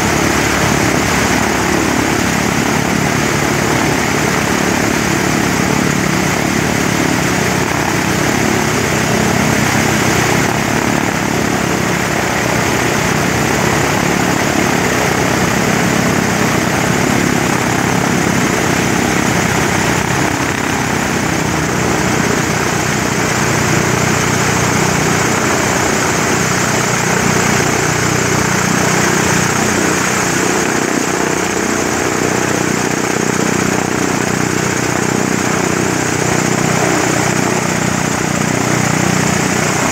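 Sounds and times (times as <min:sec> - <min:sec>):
radial piston engines running: 0:00.0 - 0:39.9.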